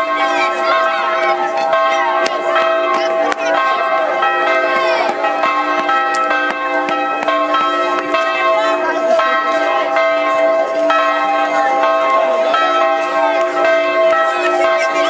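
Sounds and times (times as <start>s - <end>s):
bells ringing in a peal: 0.0s - 15.0s.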